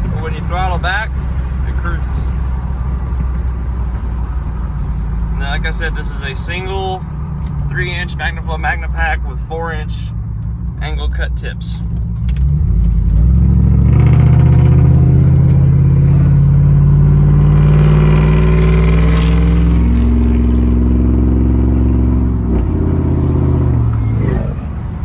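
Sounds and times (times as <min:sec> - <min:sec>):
loud truck exhaust under throttle: 0:00.0 - 0:25.0.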